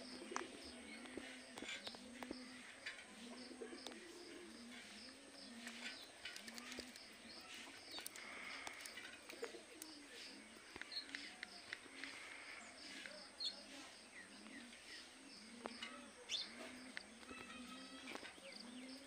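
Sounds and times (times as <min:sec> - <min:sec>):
bird cooing: 0:00.0 - 0:12.7, 0:14.2 - 0:19.0.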